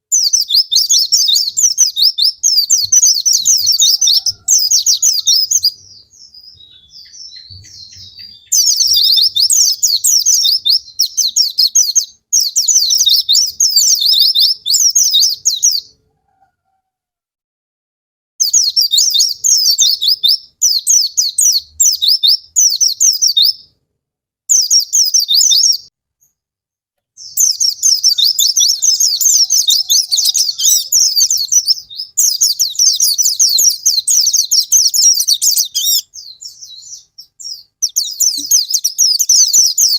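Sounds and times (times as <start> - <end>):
bird twittering song: 0.0 - 16.0, 18.4 - 23.7, 24.5 - 26.4, 27.2 - 39.9.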